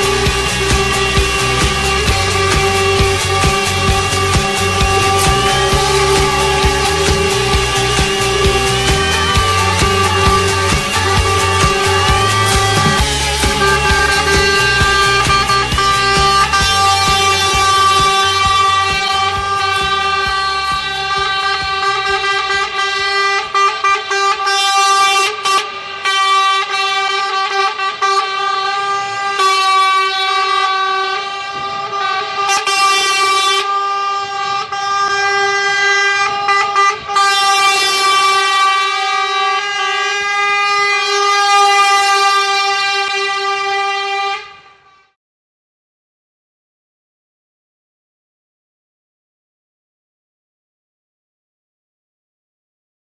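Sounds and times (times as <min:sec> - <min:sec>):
truck air horn blast: 0:00.0 - 0:45.2.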